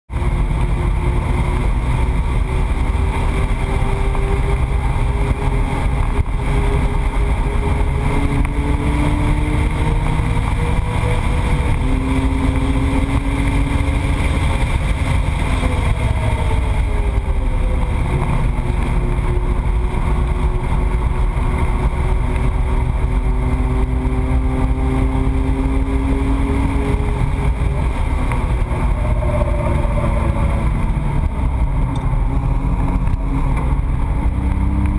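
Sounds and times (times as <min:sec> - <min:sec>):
car engine rumble: 0:00.1 - 0:34.9.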